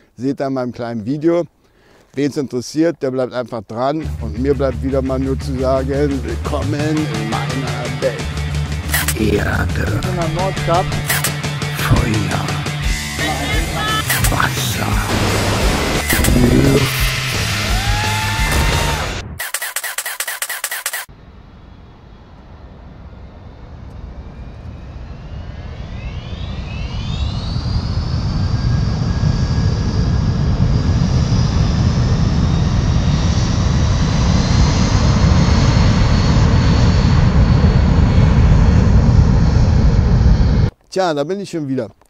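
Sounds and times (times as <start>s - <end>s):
aircraft engines spooling up: 5.5s - 12.6s, 13.2s - 40.7s.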